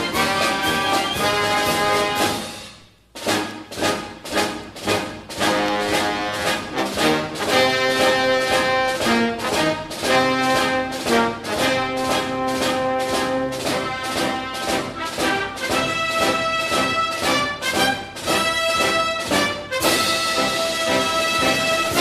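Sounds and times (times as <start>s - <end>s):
brass-led orchestral music: 0.0s - 22.0s.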